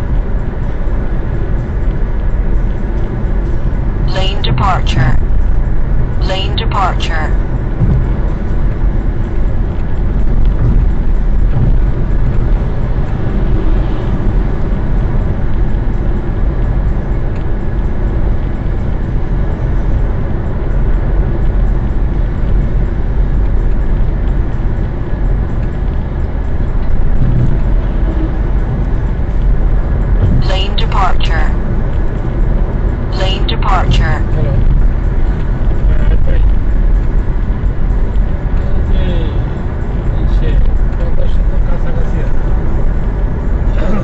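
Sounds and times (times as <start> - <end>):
road and tyre noise in car: 0.0 - 44.0.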